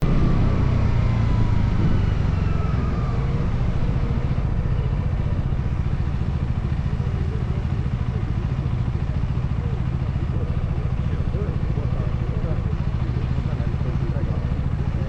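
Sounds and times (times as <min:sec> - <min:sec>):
faint engine whine: 0:00.0 - 0:15.0
motorcycle engine running: 0:00.0 - 0:15.0.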